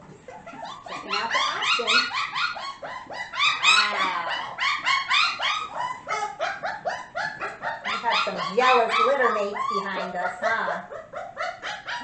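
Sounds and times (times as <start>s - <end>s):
puppies yipping and whining: 0.0s - 12.0s.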